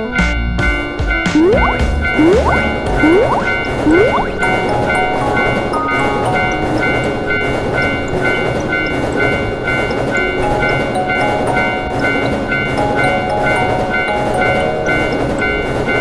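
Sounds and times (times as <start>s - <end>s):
cheerful background music: 0.0s - 16.0s
railroad crossing bell ringing: 0.7s - 16.0s
train passing: 0.8s - 16.0s.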